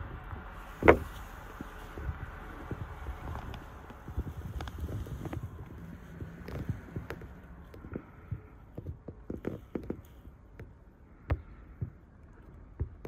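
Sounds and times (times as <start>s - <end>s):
soft taps and knocks: 0.7s - 13.0s.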